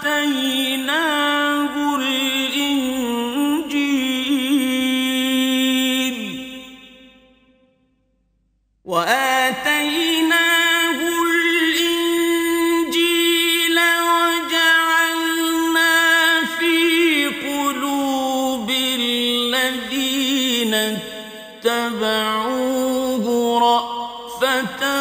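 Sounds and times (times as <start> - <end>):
man chanting melodically: 0.0 - 7.2, 8.9 - 25.0.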